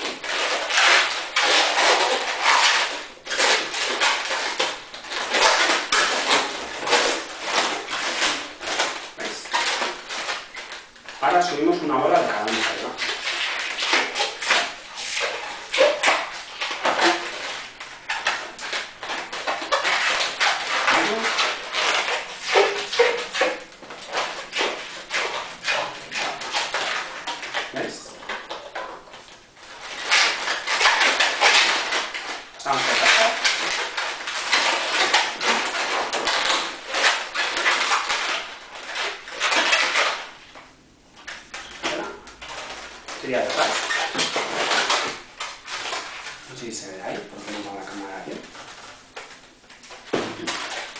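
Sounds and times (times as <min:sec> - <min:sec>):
balloons squeaking and rubbing: 0:00.0 - 0:50.9.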